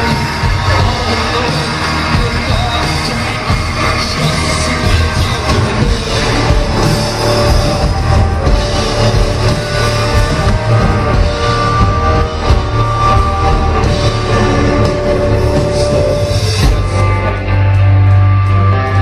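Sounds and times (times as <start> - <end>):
drums: 0.0 - 19.0
electric guitar: 0.0 - 19.0
heavy bass: 0.0 - 19.0.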